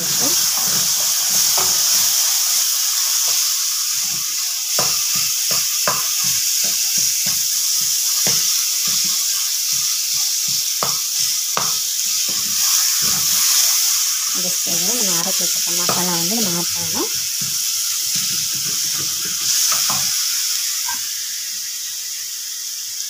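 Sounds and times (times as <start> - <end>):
sauce sizzling in oil: 0.0 - 23.0
spatula scraping and knocking pan: 0.1 - 20.2.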